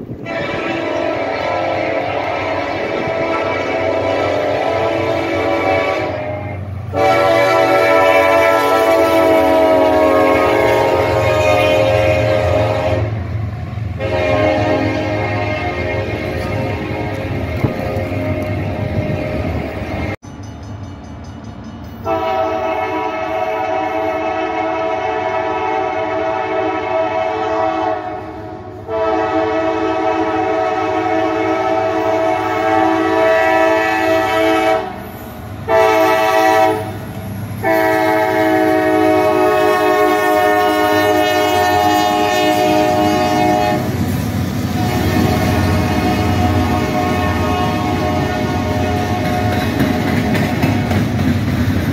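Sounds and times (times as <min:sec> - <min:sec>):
locomotive air horn blasts: 0:00.0 - 0:20.2, 0:22.0 - 0:37.0, 0:37.6 - 0:44.1, 0:44.7 - 0:50.9
low rumble of locomotive engines: 0:00.0 - 0:51.9.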